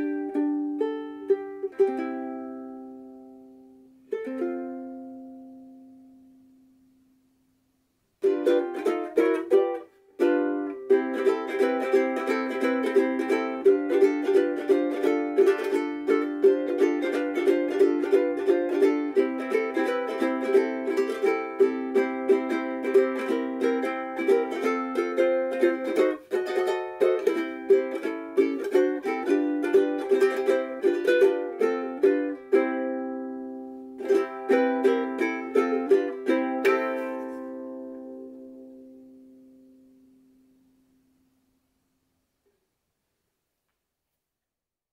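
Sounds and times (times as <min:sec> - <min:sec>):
ukulele strummed chords: 0:00.0 - 0:07.4, 0:08.2 - 0:41.6.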